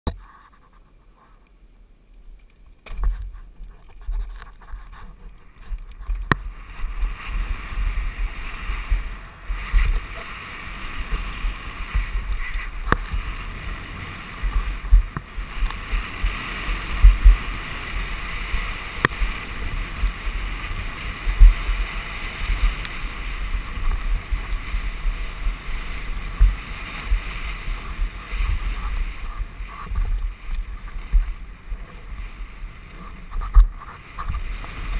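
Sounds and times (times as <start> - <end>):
wind buffeting microphone: 3.0 - 34.9.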